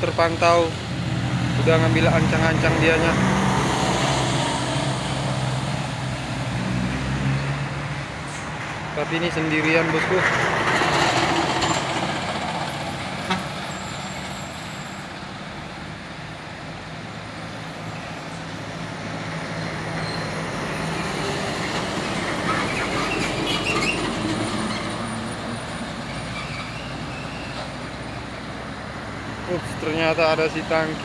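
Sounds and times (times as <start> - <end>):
diesel truck engines droning: 0.0 - 31.0.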